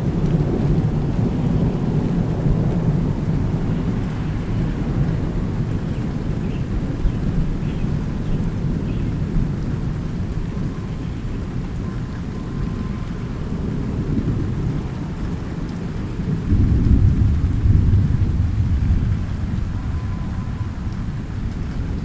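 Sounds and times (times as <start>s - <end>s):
low thunder rumbling: 0.0s - 11.8s, 12.4s - 22.0s
steady rain: 0.0s - 22.0s.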